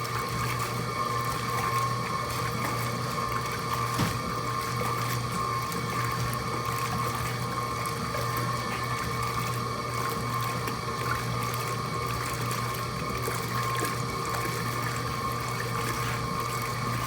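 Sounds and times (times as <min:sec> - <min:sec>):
washing machine motor hum: 0:00.0 - 0:17.0
water moving in a tub: 0:00.0 - 0:17.0.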